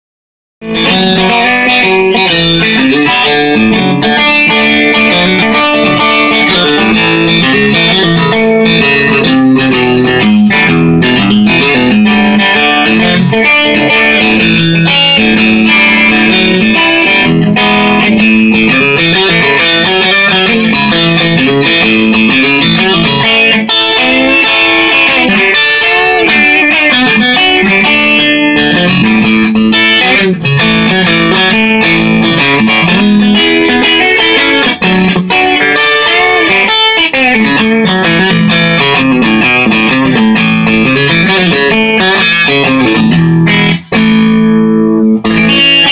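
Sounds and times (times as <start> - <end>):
electric guitar picked notes and chords: 0.6 - 45.9.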